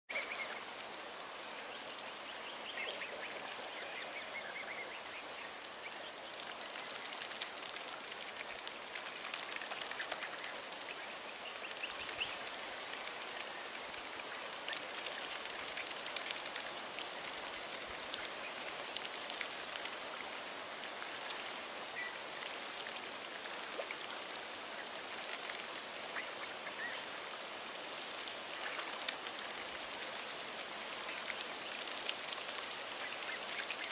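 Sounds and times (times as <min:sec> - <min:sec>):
swans dabbling and splashing: 0:00.1 - 0:33.9.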